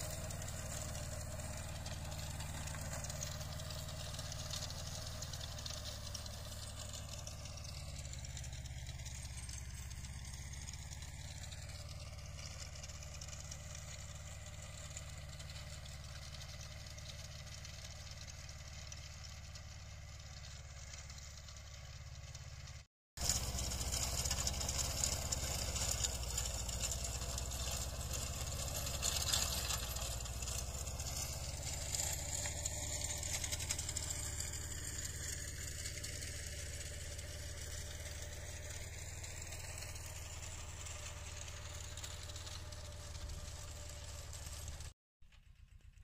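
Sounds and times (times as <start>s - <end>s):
tractor engine droning: 0.0s - 46.0s.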